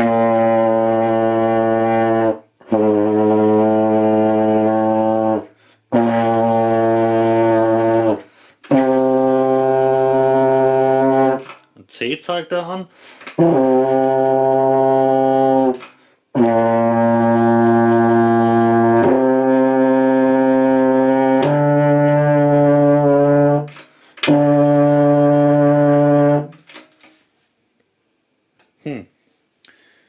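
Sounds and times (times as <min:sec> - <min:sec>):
tenor horn long notes: 0:00.0 - 0:11.5, 0:13.4 - 0:26.6.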